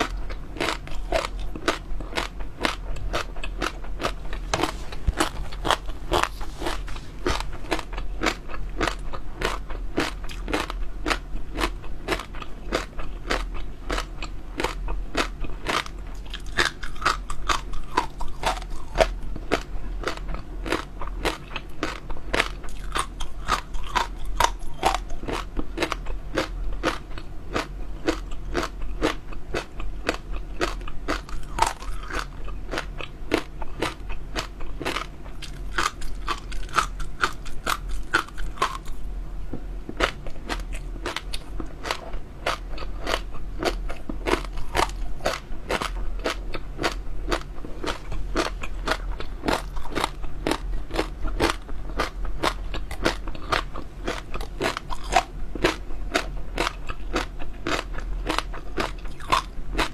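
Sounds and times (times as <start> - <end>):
crunchy chewing: 0.0 - 39.1, 39.9 - 59.9
low steady hum: 0.0 - 59.9.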